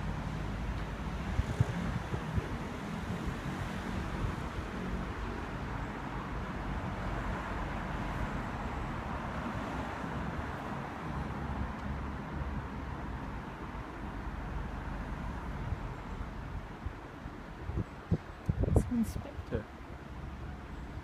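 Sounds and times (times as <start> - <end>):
road traffic: 0.0 - 21.0
wind: 0.0 - 21.0.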